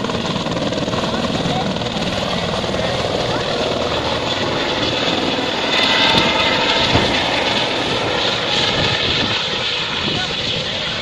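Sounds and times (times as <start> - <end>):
helicopter engine noise: 0.0 - 11.0
helicopter rotor beat: 0.0 - 11.0.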